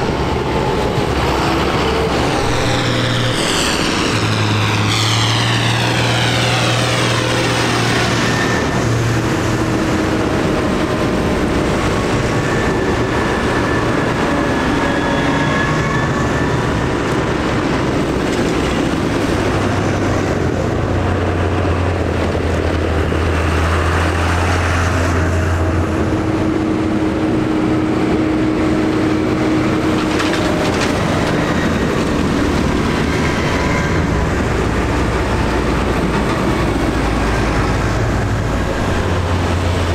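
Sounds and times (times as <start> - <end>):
tractor diesel engines passing: 0.0 - 39.9.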